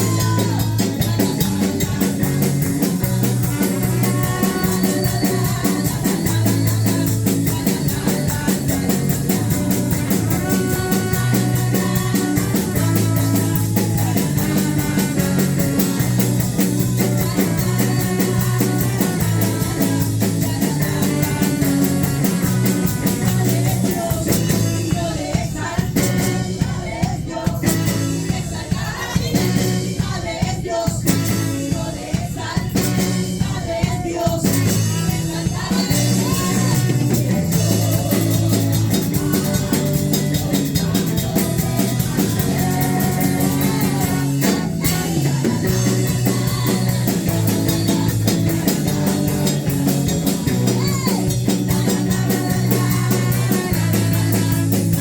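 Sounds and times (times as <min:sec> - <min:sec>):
person singing: 0:00.0 - 0:28.2, 0:30.6 - 0:55.0
live worship band playing: 0:00.0 - 0:55.0.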